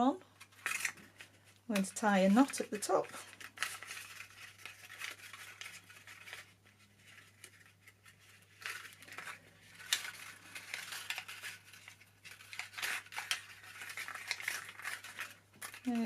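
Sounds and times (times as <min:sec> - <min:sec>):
paper cases crinkling: 0:00.3 - 0:16.0.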